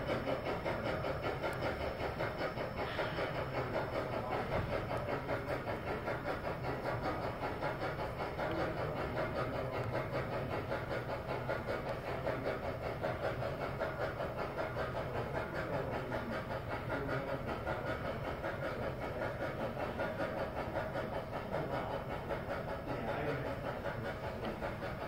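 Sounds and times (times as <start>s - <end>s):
model train rumbling and clattering: 0.0s - 25.0s.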